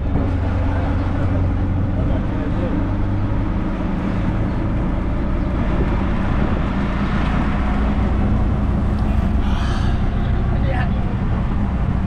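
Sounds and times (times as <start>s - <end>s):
auto-rickshaw engine running: 0.0s - 12.0s
road noise: 0.0s - 12.0s.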